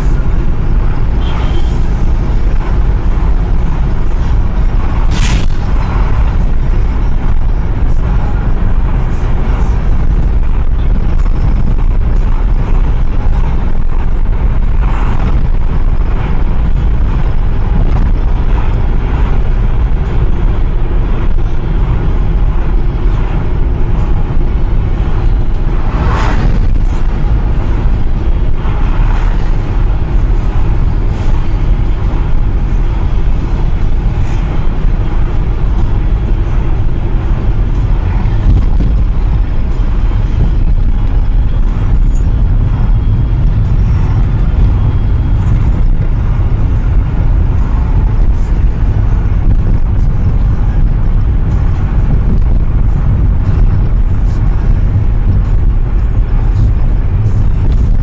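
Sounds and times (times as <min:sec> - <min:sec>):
road and engine rumble in car: 0:00.0 - 0:58.0
traffic noise: 0:00.0 - 0:58.0.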